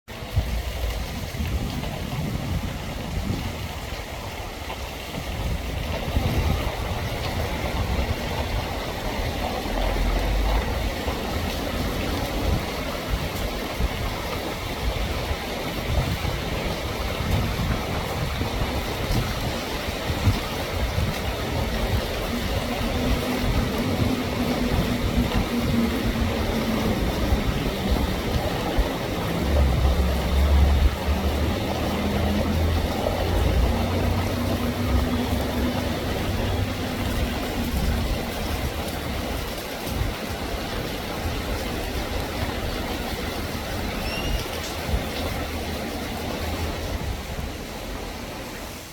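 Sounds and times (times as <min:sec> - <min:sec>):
steady rain: 0:00.1 - 0:48.9.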